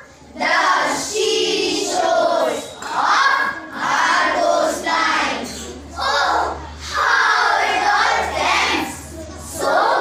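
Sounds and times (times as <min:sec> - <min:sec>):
children reciting in unison: 0:00.0 - 0:10.0.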